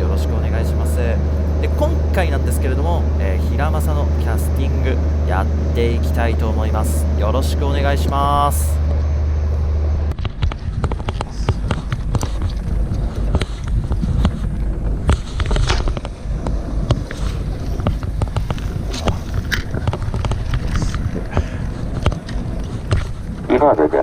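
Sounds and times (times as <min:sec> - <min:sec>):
boat engine rumble: 0:00.0 - 0:24.0
wind buffeting microphone: 0:00.0 - 0:24.0.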